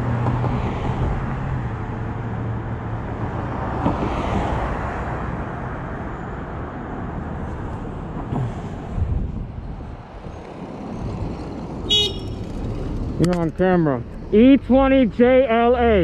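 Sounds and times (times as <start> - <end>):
car engines and tyre noise: 0.0 - 16.0
car passing: 0.0 - 16.0.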